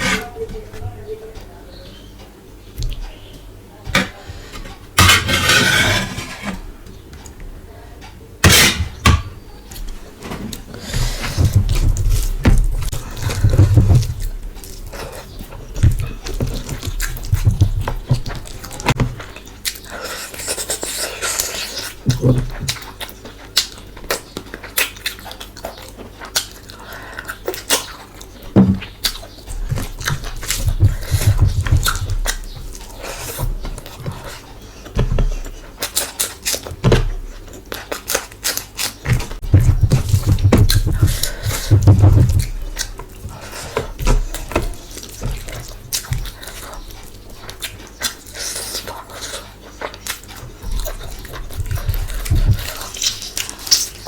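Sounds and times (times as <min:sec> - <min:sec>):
wet chewing and mouth smacking: 0:10.5 - 0:54.0.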